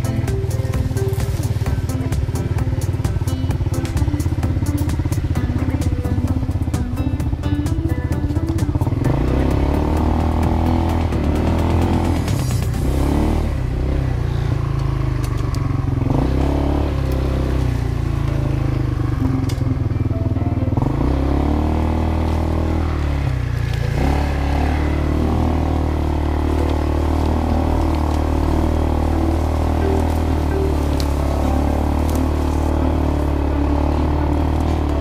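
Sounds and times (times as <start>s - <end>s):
quad bike engine revving: 0.0s - 35.0s.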